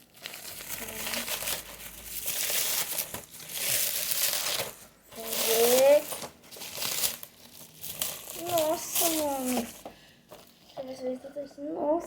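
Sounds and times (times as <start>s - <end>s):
packaging crinkling and rustling: 0.0s - 10.7s.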